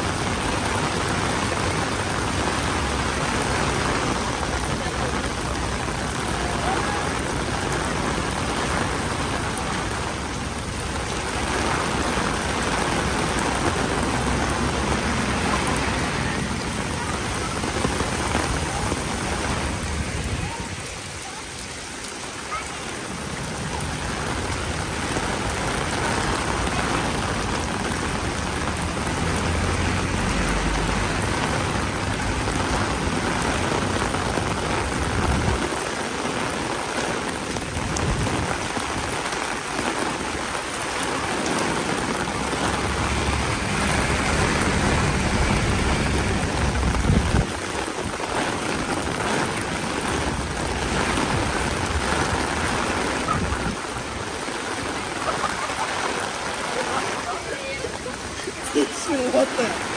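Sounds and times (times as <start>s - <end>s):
rain hitting the street: 0.0s - 59.9s.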